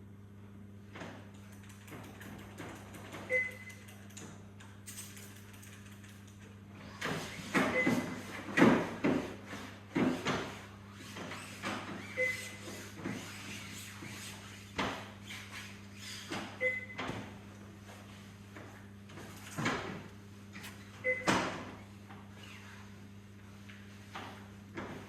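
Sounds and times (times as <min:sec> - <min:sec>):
steady low equipment hum: 0:00.0 - 0:25.0.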